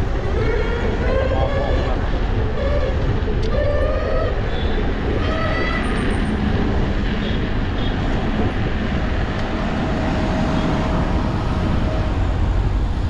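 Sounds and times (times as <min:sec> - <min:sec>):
tyre and street noise: 0:00.0 - 0:13.0
wind rumble on microphone: 0:00.0 - 0:13.0.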